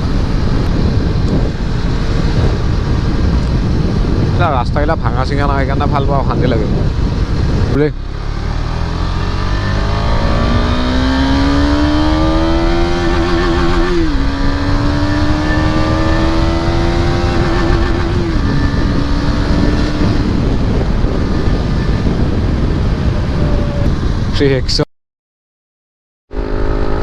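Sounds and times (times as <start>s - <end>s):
motorcycle engine accelerating: 0.0s - 4.5s, 5.4s - 24.3s, 26.3s - 27.0s
road and wind noise: 0.0s - 24.9s, 26.3s - 27.0s.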